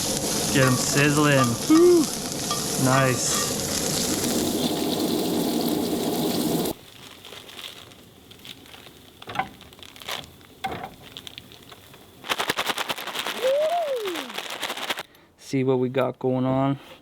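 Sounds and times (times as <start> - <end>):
vegetables sizzling in oil: 0.0 - 15.0
rapid crackling pops: 0.0 - 15.1.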